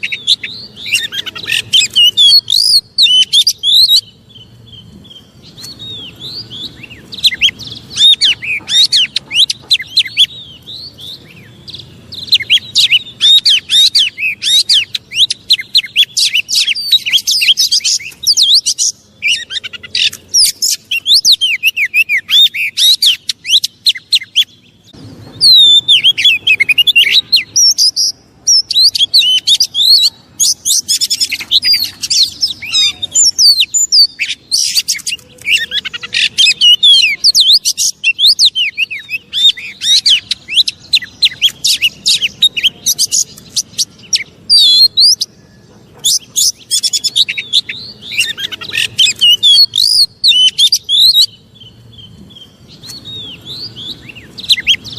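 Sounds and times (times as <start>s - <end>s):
magpie-robin singing sharp whistles: 0.0s - 4.5s, 5.1s - 24.6s, 25.4s - 45.3s, 46.0s - 51.4s, 52.4s - 54.9s.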